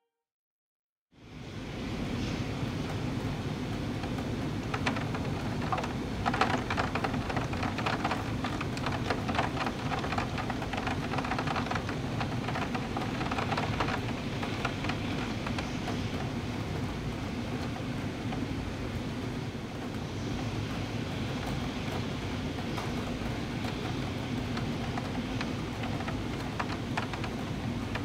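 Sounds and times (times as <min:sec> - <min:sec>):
rain drops pattering: 0:02.0 - 0:28.0.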